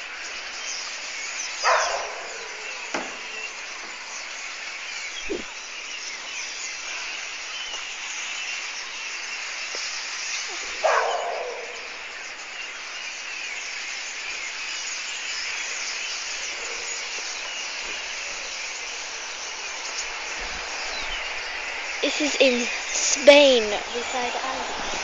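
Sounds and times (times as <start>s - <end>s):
flock of birds chirping: 0.0s - 25.0s.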